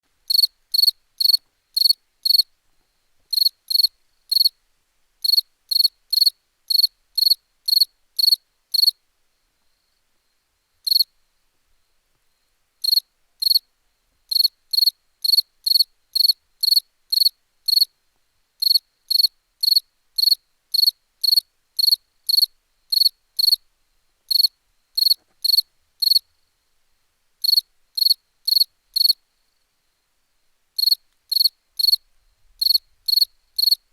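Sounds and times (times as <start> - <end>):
cricket chirping: 0.3 - 4.6, 5.2 - 13.7, 14.3 - 18.0, 18.6 - 26.7, 27.4 - 33.9.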